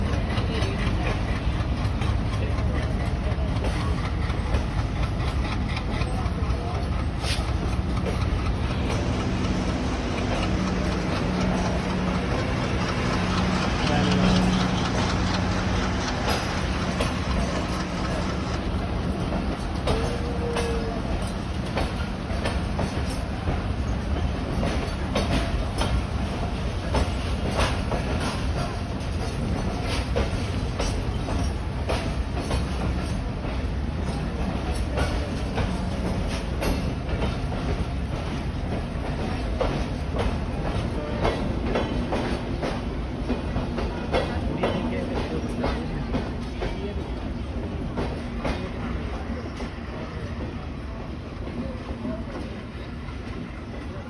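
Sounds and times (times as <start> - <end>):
locomotive exhaust noise: 0.0 - 46.4
locomotive engine rumbling: 0.0 - 54.0
wheels clicking over rail joints: 0.1 - 46.7.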